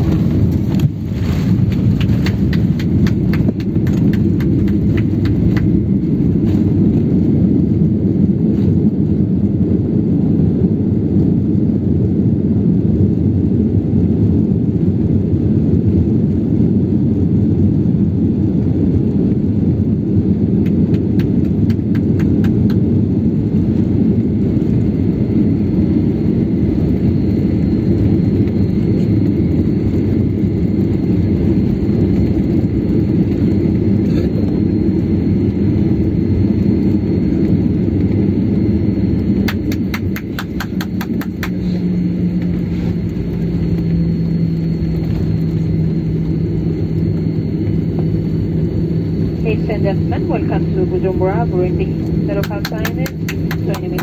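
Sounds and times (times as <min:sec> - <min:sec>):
airliner rumbling on runway: 0:00.0 - 0:54.0.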